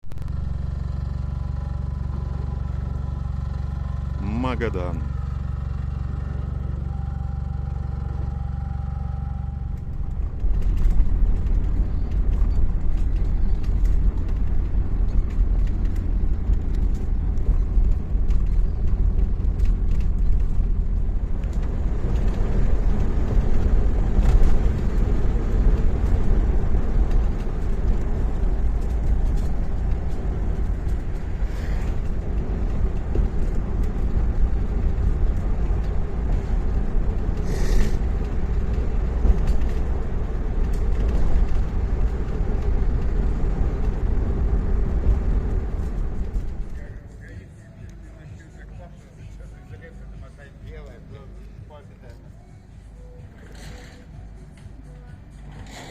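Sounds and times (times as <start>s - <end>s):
engine humming and rumbling: 0.0s - 55.9s.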